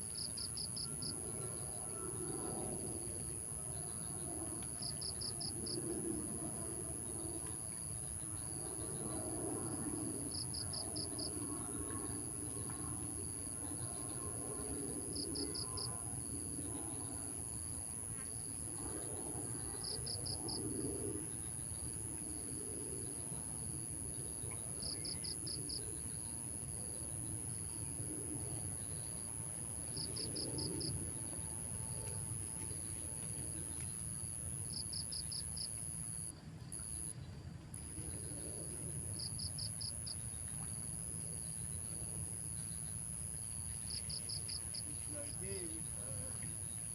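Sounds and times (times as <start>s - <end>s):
insect high-pitched drone: 0.0s - 46.9s
insect quick chirps: 0.0s - 46.9s.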